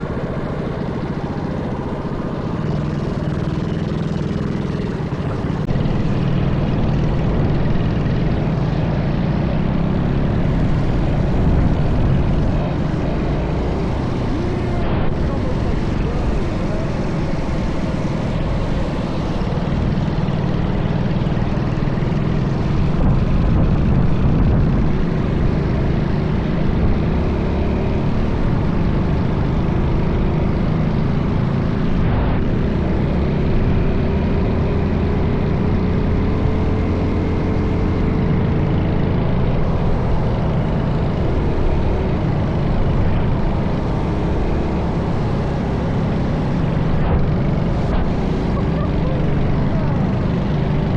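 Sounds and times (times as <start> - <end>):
minibike engine running: 0.0 - 50.9
wind rumble on microphone: 5.2 - 50.9.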